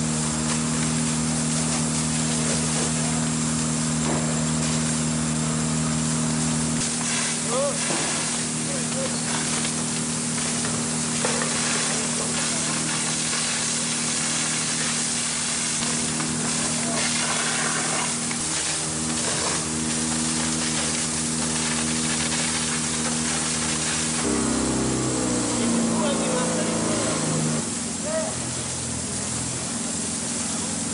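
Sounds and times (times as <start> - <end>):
low hum: 0.0 - 27.8
fire hose spraying water: 0.0 - 30.9.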